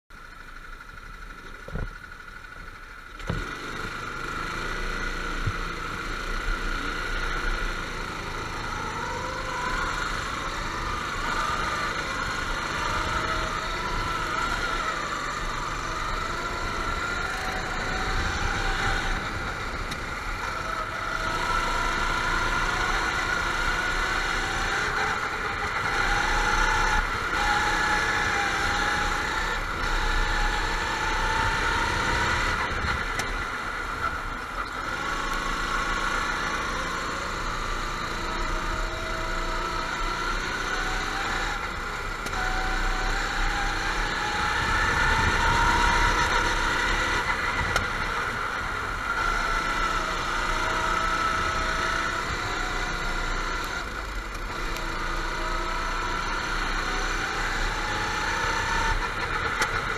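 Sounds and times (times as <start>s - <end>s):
go-kart engines running: 0.1s - 59.9s.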